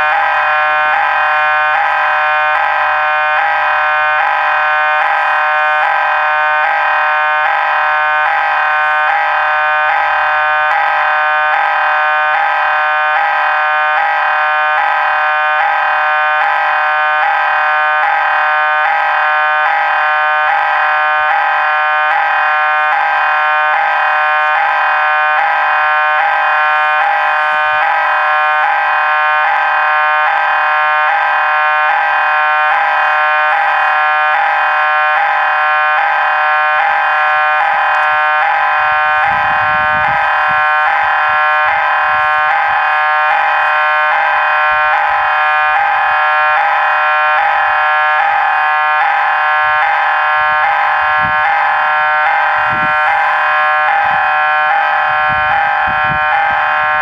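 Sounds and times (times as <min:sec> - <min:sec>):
level-crossing warning bells: 0:00.0 - 0:57.0.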